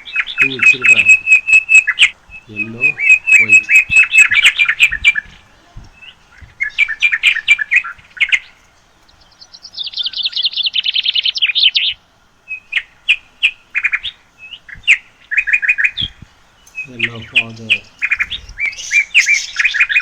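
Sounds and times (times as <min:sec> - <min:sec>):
parrots chirping: 0:00.0 - 0:20.0.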